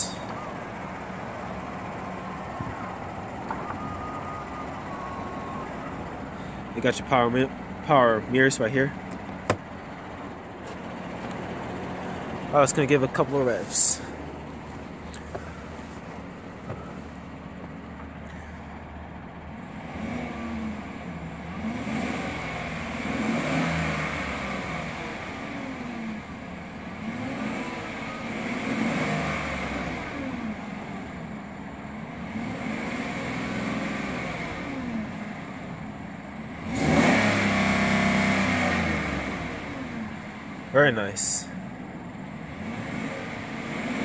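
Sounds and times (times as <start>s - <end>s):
truck engine revving: 0.0s - 44.0s.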